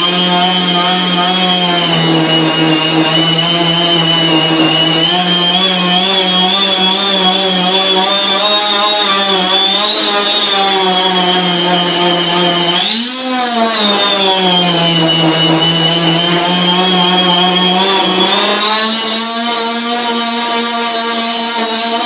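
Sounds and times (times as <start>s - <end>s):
electric power tool running: 0.0s - 22.0s.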